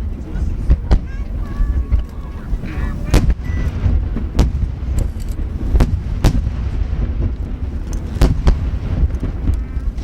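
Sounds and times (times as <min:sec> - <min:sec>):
firework booms: 0:00.0 - 0:10.0
rumble of echoing explosions: 0:00.0 - 0:10.0.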